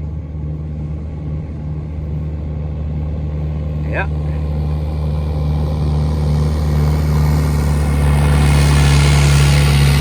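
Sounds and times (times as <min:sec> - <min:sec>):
outboard motors droning: 0:00.0 - 0:10.0.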